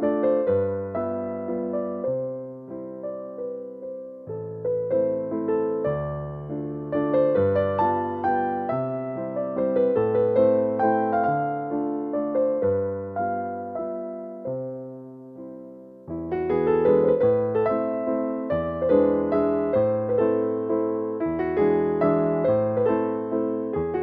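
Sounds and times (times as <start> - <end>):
gentle slow piano music: 0.0 - 24.0.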